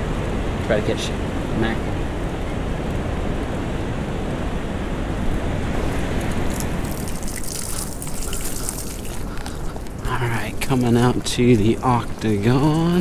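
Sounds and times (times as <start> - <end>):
ocean surf: 0.0 - 13.0
wind on microphone: 0.0 - 13.0.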